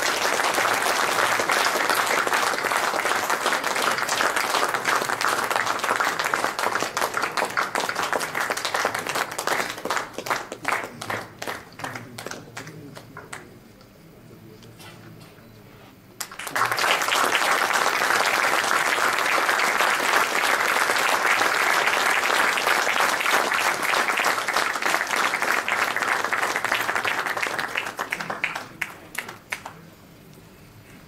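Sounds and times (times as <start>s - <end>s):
audience applauding: 0.0s - 13.4s, 16.2s - 29.8s.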